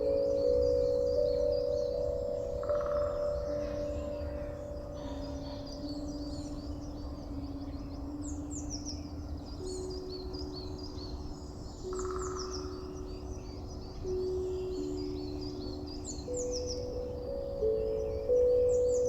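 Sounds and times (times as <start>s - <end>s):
low ambient music notes: 0.0s - 19.0s
songbirds twittering: 0.0s - 19.0s.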